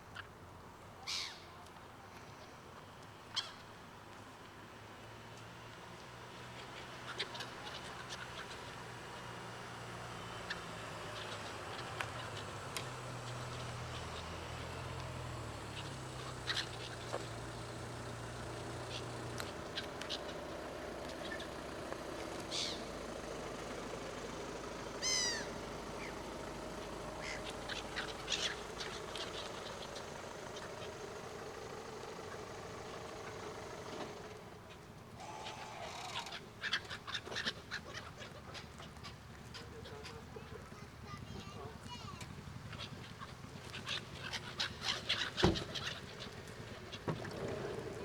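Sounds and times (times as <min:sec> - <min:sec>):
wild birds calling: 0:00.1 - 0:01.7, 0:03.2 - 0:03.8, 0:05.1 - 0:48.0.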